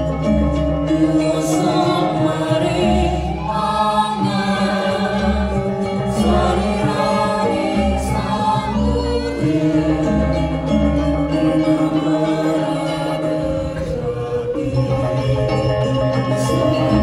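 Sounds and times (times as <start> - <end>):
ringing metallophones: 0.0 - 17.0
women's choir singing: 0.0 - 17.0.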